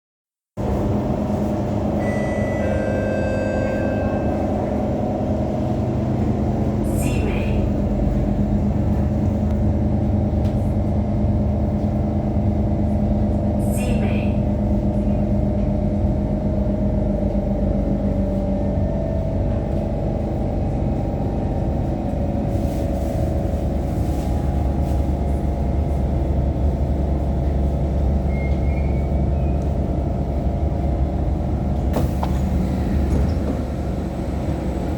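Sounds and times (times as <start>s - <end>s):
train low rumble: 0.6s - 34.9s.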